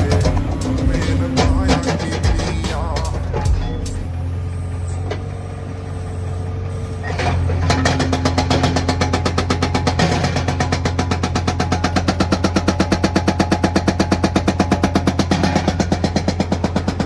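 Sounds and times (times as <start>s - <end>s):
diesel engine running: 0.0s - 17.0s
hydraulic breaker hammering: 0.0s - 17.0s.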